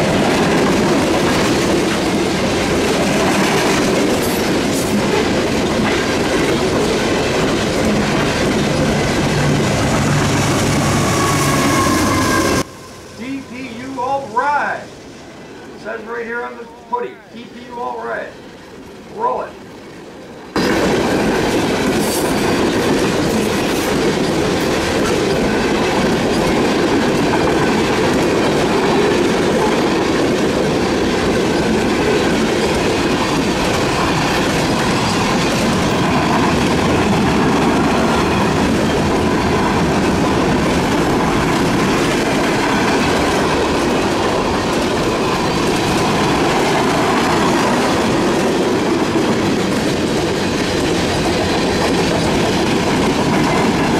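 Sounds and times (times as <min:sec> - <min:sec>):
freight train cars rolling past: 0:00.0 - 0:53.9.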